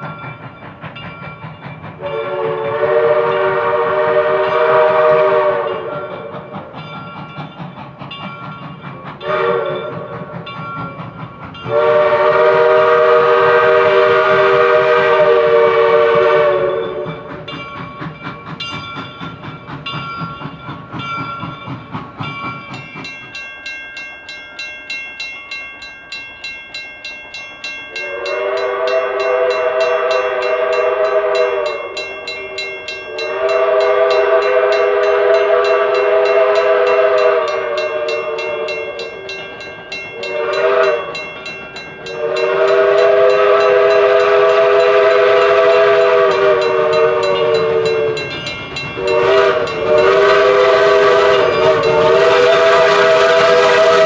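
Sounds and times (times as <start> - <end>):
steam locomotive chime whistle: 0.0 - 54.0
train running rhythmic beat: 0.0 - 54.0.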